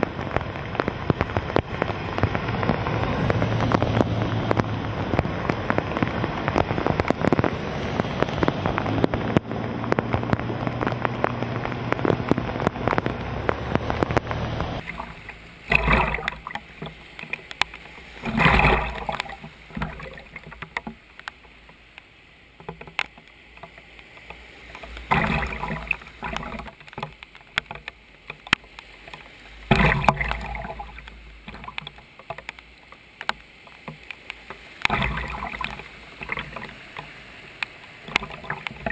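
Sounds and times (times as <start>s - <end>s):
cars splashing through flood water: 0.0s - 38.9s.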